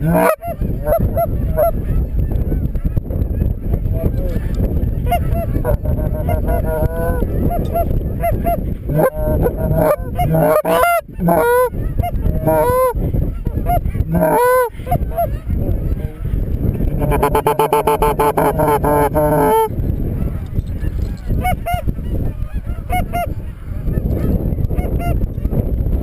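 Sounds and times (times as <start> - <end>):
geese honking: 0.0 - 2.6, 3.6 - 25.2
wind rumble on microphone: 0.0 - 26.0.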